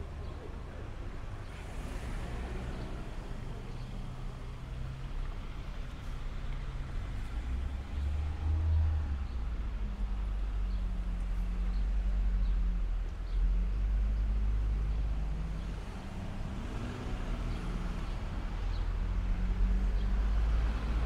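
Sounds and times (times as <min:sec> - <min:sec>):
passing vehicle engine rumble: 0:00.0 - 0:21.0
traffic engine hum: 0:00.0 - 0:21.0.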